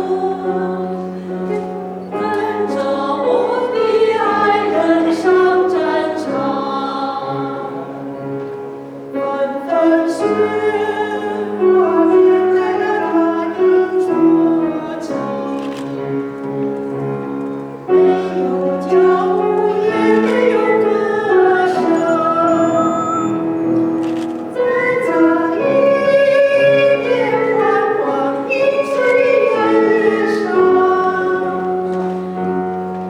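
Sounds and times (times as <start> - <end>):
vocal group singing slow song: 0.0 - 8.1, 9.2 - 15.6, 18.0 - 23.5, 24.6 - 32.2
piano accompaniment: 0.0 - 33.0.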